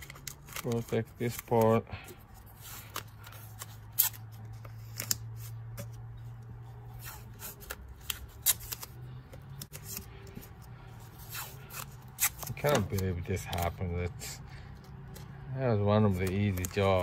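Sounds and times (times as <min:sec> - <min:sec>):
tape rustling and clicking: 0:00.0 - 0:14.0, 0:14.6 - 0:17.0.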